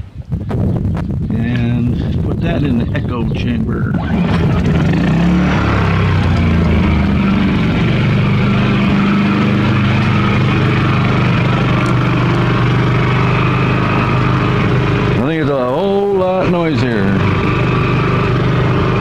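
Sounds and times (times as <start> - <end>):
generator running: 2.1 - 19.0.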